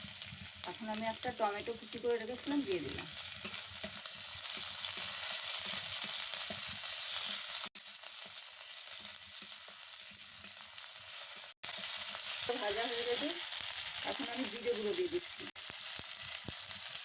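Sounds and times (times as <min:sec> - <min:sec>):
spatula stirring: 0:00.0 - 0:15.5
vegetables sizzling in hot oil: 0:00.0 - 0:17.0.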